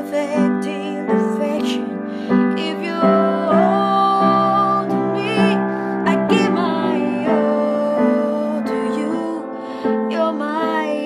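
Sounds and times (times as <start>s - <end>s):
piano: 0.0s - 11.0s
woman singing a ballad: 0.0s - 11.0s.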